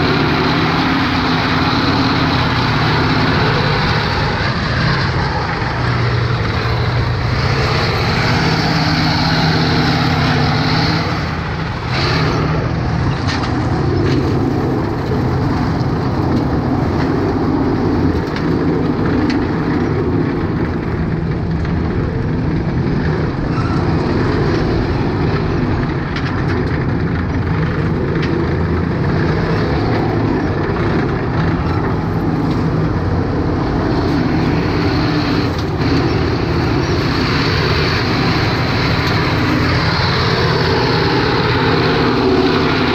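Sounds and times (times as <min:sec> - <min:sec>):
tank diesel engine running: 0:00.0 - 0:42.9
tracks grinding over gravel: 0:00.0 - 0:42.9.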